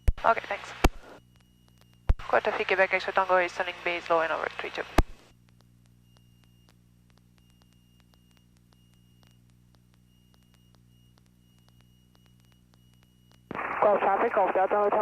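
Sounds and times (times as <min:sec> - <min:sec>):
faint ticking: 0:00.0 - 0:13.6
faint electrical hum: 0:00.0 - 0:15.0.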